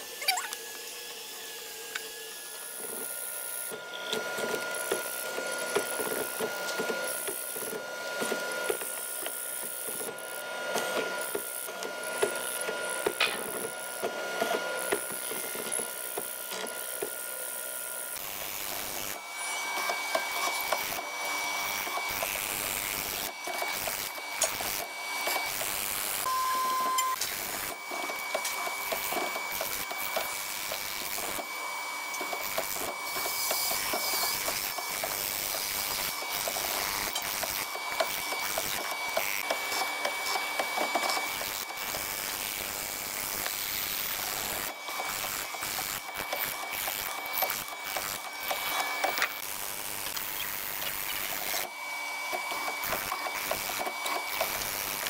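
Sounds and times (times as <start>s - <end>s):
mortising machine whine: 0.0s - 55.0s.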